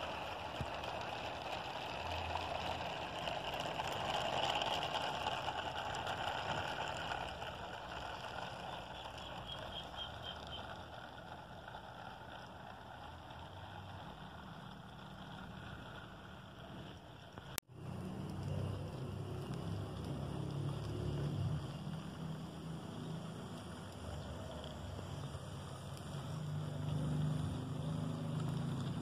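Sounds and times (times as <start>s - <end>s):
model train rolling on track: 0.0s - 29.0s.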